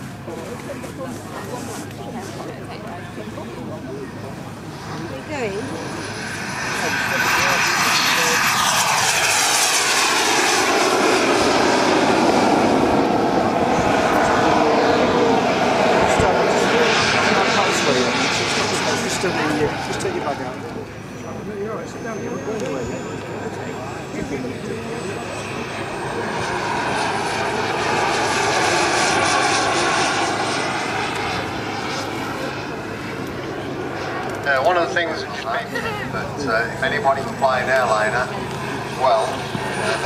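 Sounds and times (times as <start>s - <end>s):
model jet engine rushing whine: 0.0s - 40.0s.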